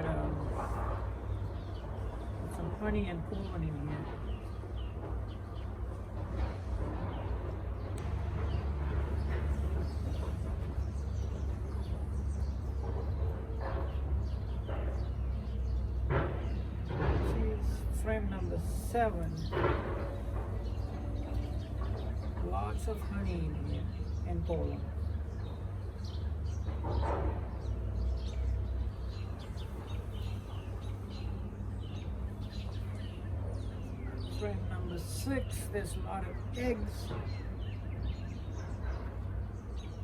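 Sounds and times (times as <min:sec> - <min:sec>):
honeybees humming: 0:00.0 - 0:40.0
small birds chirping: 0:00.0 - 0:40.0
steady low rumble: 0:00.0 - 0:40.0.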